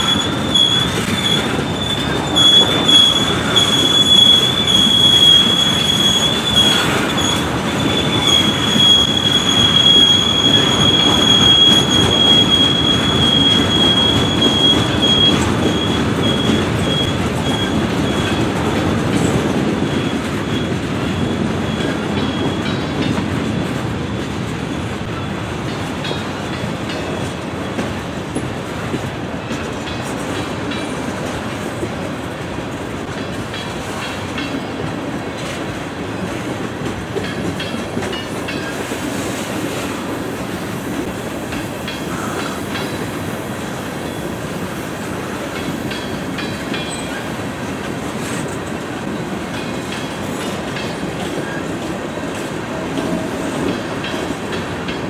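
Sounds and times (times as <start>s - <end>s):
clickety-clack over rail joints: 0.0s - 55.0s
train wheels rumbling on rail: 0.0s - 55.0s.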